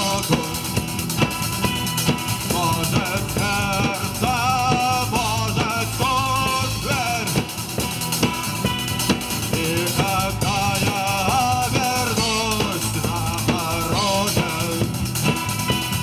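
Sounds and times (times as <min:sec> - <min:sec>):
drum kit beat: 0:00.0 - 0:16.0
rock band playing: 0:00.0 - 0:16.0.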